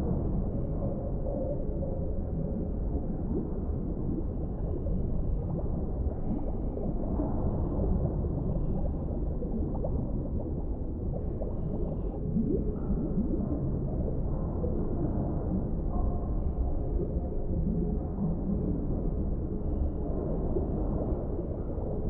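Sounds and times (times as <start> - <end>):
underwater low rumble: 0.0 - 22.0
bubbling: 2.1 - 22.0.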